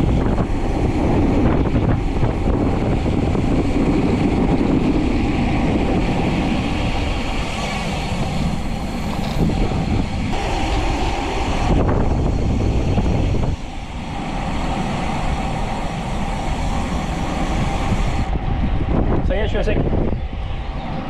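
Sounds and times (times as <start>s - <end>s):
bicycle road noise: 0.0s - 21.0s
wind rush: 0.0s - 21.0s.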